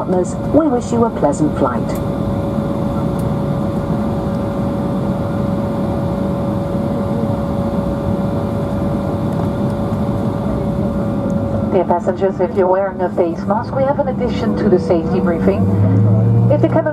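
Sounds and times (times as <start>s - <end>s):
jet cabin hum: 0.0s - 16.9s
steady whine: 0.0s - 16.9s.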